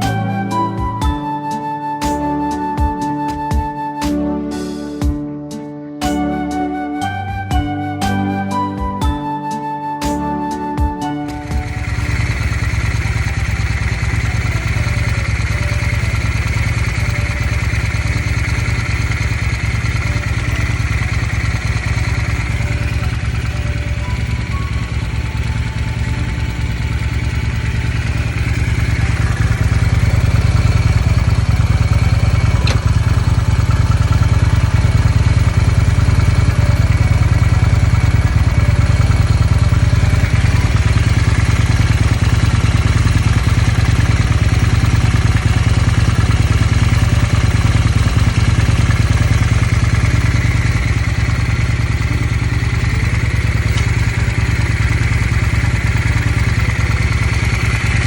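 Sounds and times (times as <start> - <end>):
motorcycle engine idling: 0.0 - 1.2, 10.8 - 58.0.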